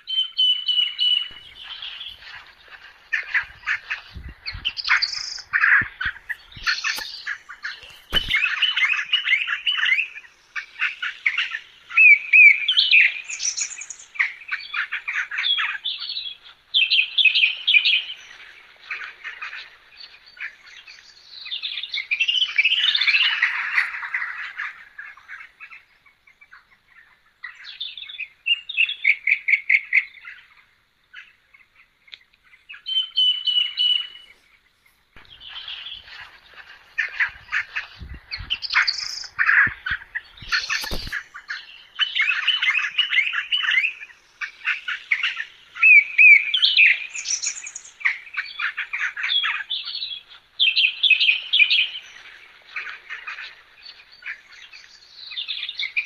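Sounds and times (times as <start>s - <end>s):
birds chirping and singing: 0.0s - 34.6s, 35.2s - 56.0s.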